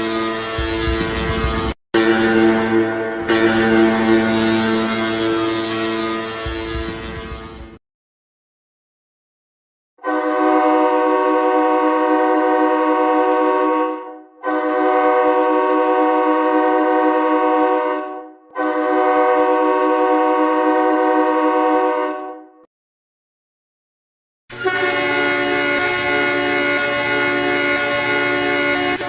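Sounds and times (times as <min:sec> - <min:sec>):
multi-note air horn blasts: 0:00.0 - 0:07.8, 0:10.0 - 0:22.6, 0:24.5 - 0:29.0.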